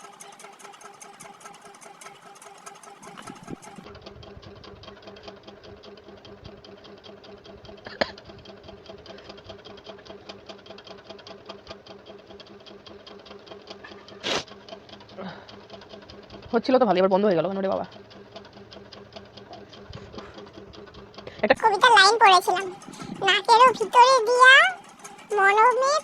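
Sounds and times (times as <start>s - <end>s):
small motor humming and ticking: 0.0s - 26.0s.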